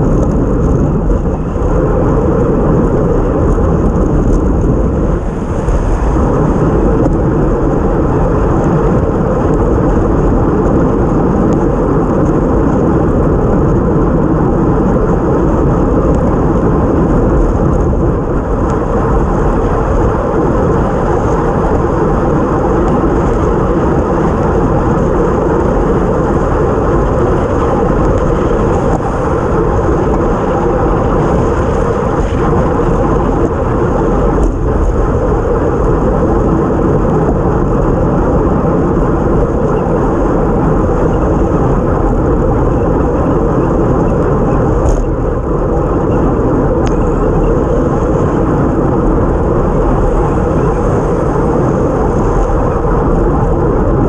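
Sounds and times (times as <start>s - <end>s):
tyres on wet road: 0.0s - 54.0s
wind buffeting microphone: 0.0s - 54.0s.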